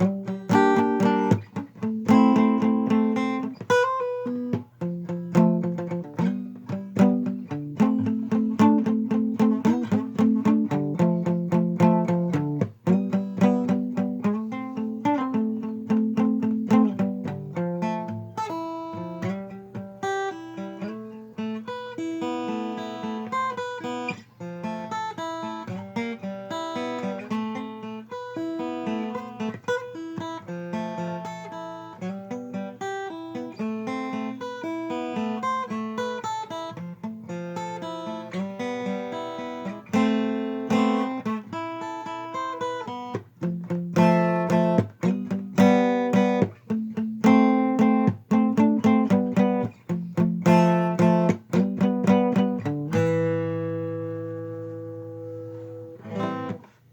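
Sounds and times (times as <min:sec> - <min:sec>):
acoustic guitar playing: 0:00.0 - 0:56.9.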